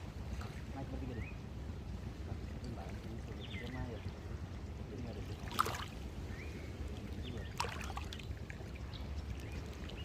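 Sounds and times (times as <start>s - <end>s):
water trickling and sloshing: 0.0s - 10.0s.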